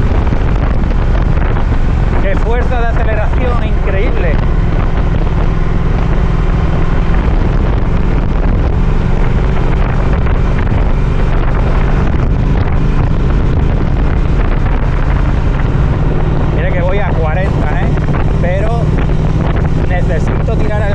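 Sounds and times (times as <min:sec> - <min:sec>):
motorcycle engine cruising: 0:00.0 - 0:20.9
wind noise on microphone: 0:00.0 - 0:20.9.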